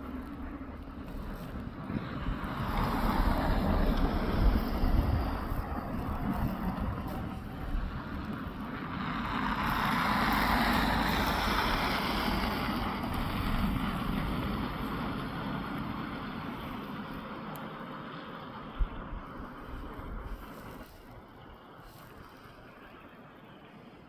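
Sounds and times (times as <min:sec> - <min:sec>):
wind buffeting microphone: 0:00.0 - 0:23.6
broad rushing noise: 0:00.0 - 0:24.0
diesel locomotives rumbling: 0:00.0 - 0:24.0.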